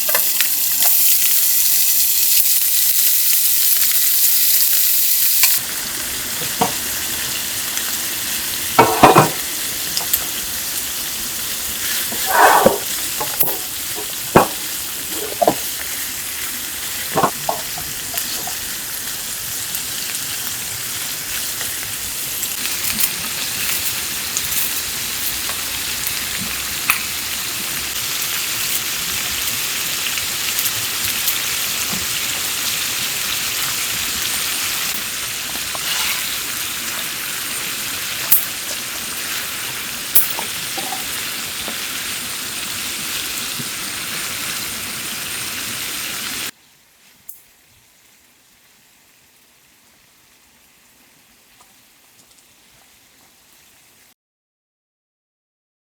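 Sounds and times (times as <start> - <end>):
food sizzling in a frying pan: 0.0 - 54.1.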